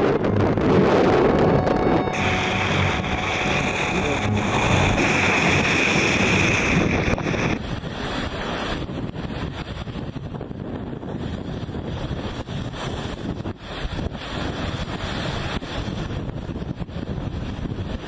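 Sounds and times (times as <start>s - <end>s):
wind buffeting microphone: 0.0s - 2.3s, 4.5s - 18.0s
rush of the sea: 0.0s - 18.0s.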